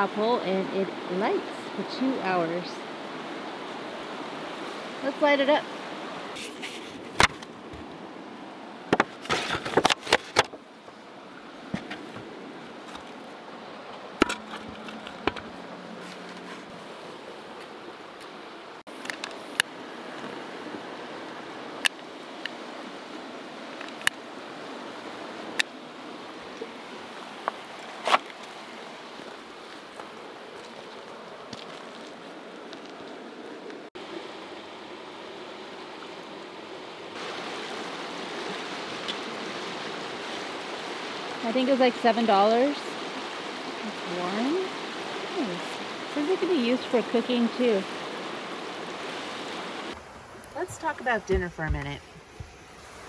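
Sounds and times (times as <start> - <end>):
river water rushing: 0.0 - 51.2.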